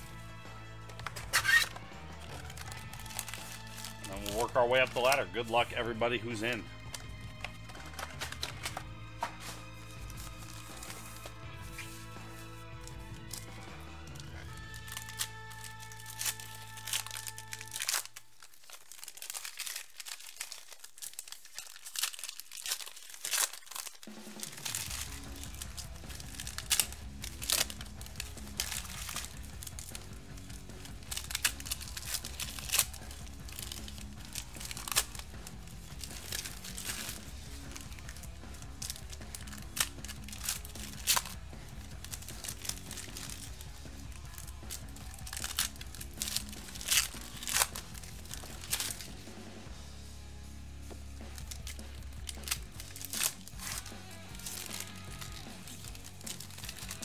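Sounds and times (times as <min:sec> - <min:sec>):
background music: 0:00.0 - 0:57.0
foil packs tearing: 0:00.8 - 0:49.3, 0:51.2 - 0:57.0.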